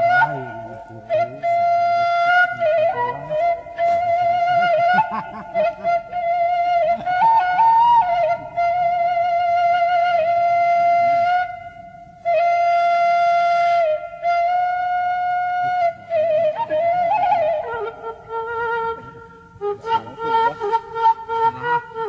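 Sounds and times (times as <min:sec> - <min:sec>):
solo flute melody: 0:00.0 - 0:22.0.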